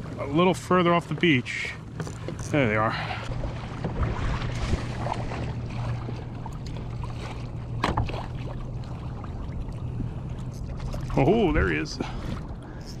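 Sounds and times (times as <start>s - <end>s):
steady low hum: 0.0s - 13.0s
water lapping against kayak hull: 0.0s - 13.0s.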